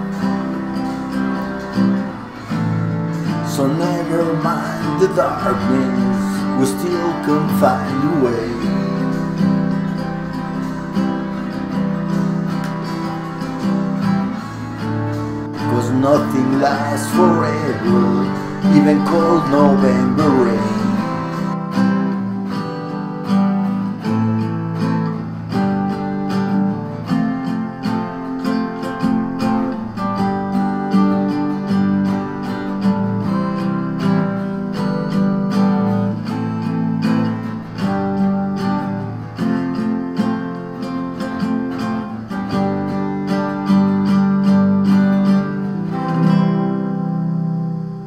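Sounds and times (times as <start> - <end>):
nylon-string guitar strumming: 0.0 - 48.0.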